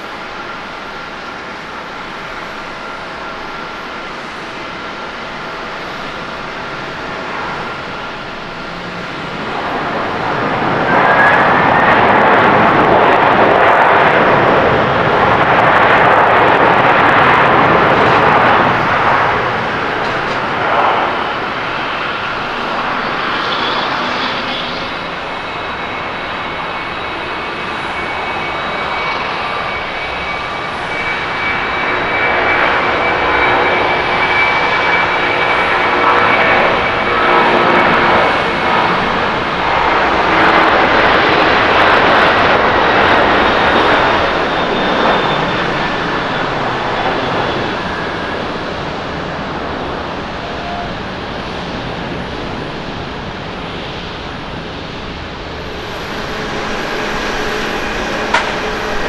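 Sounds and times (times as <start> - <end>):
jet engines high whine: 0.0 - 59.0
jet engines roaring: 0.0 - 59.0.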